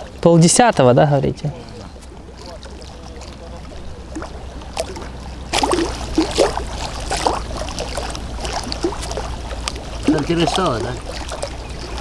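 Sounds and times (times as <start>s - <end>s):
small waves lapping and splashing: 0.0s - 12.0s.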